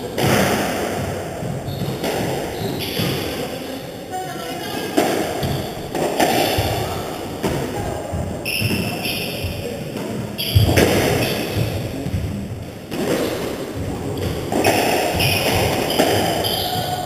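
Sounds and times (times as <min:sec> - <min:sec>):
squash ball hitting rackets and walls: 0:00.0 - 0:03.7, 0:04.8 - 0:17.0
shoes squeaking on floor: 0:01.4 - 0:17.0.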